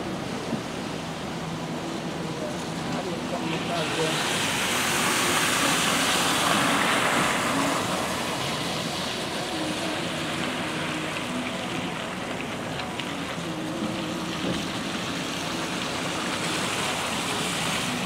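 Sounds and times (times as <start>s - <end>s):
tyres hissing on wet road: 0.0s - 18.0s.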